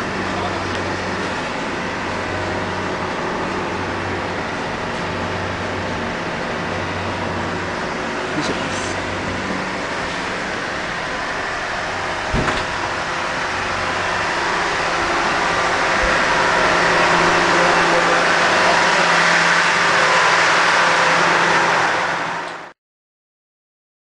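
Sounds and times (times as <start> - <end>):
train rumble and hiss: 0.0 - 22.7.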